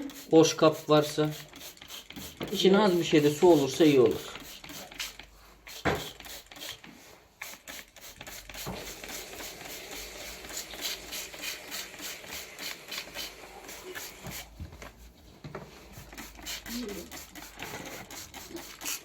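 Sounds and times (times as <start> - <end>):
rhythmic hissing and rubbing: 0.0 - 6.8, 7.4 - 14.6, 15.9 - 19.0.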